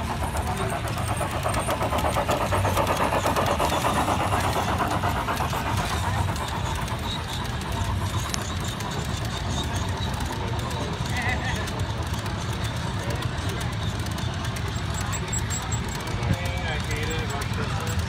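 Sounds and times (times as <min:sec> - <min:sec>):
model train rhythmic clatter: 0:00.0 - 0:18.0.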